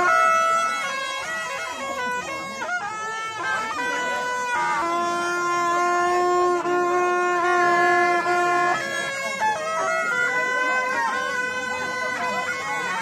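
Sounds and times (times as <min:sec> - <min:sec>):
shrill double-reed horn tune: 0:00.0 - 0:13.0.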